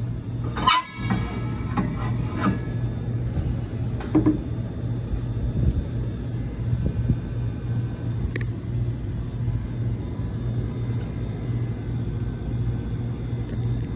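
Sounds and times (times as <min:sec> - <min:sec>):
blower humming rhythmically: 0:00.0 - 0:13.9.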